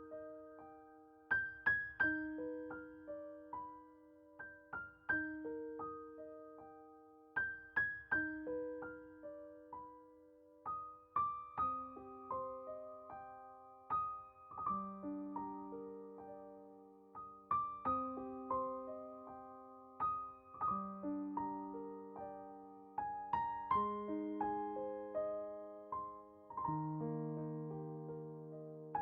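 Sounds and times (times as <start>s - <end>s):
gentle solo piano: 0.0s - 29.0s.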